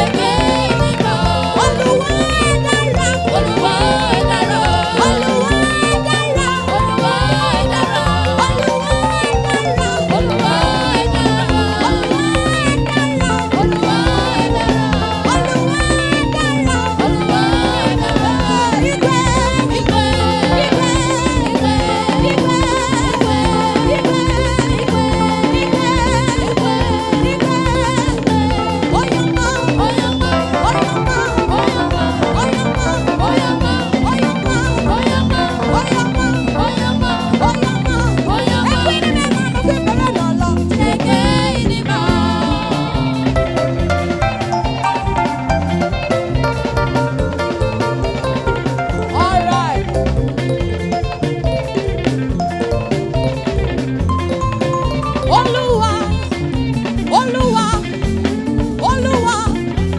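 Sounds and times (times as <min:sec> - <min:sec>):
church praise music: 0:00.0 - 0:59.9
drums and percussion beat: 0:00.0 - 0:59.9.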